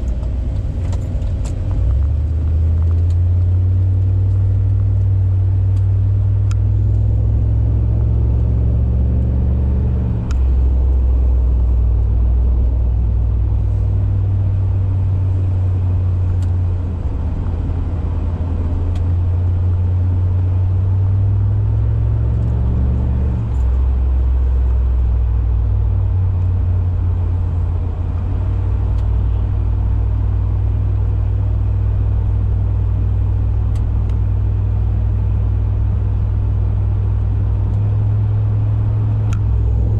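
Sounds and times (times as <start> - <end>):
low exhaust drone inside car: 0.0 - 39.9.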